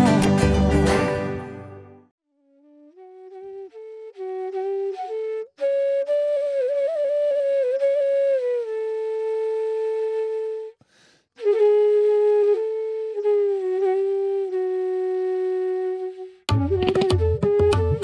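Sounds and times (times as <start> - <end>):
slow flute-like melody: 0.0 - 10.8, 11.4 - 18.0.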